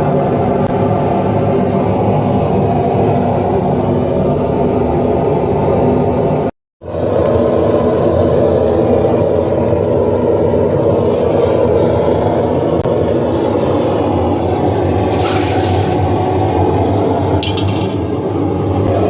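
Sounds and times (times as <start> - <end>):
loud mechanical drone: 0.0 - 19.0.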